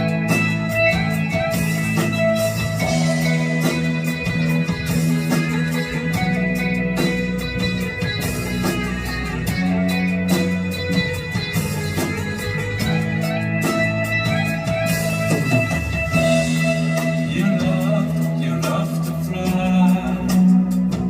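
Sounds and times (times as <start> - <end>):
guitar-led instrumental music: 0.0 - 21.0.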